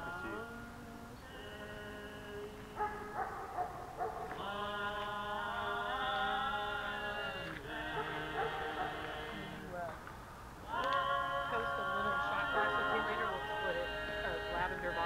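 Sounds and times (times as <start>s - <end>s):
voices chanting in long notes: 0.0s - 15.0s.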